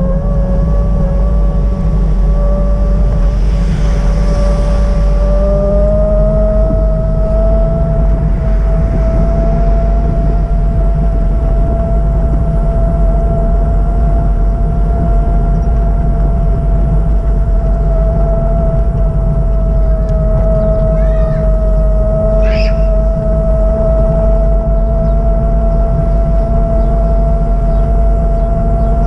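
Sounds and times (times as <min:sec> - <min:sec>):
steady whine: 0:00.0 - 0:29.0
train rumbling past: 0:00.0 - 0:29.0.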